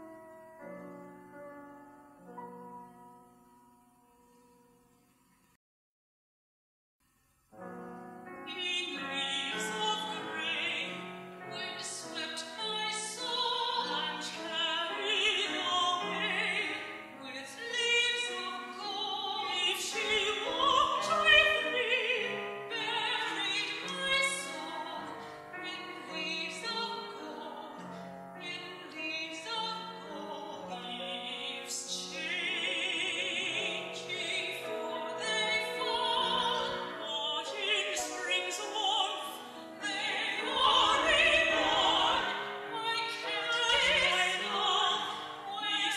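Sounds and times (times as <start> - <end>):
piano accompaniment: 0.0 - 5.0, 7.5 - 45.9
operatic soprano singing: 8.5 - 27.8, 28.4 - 45.9.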